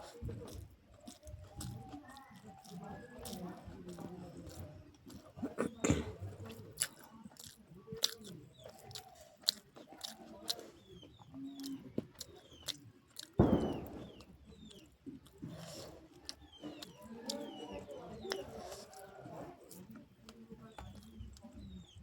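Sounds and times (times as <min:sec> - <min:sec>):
chewing and mouth smacking: 0:00.0 - 0:22.0.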